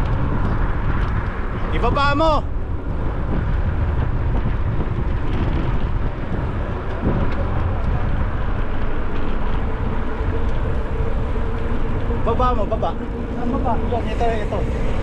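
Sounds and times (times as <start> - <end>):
bicycle road noise: 0.0 - 15.0
wind rush over microphone: 0.0 - 15.0.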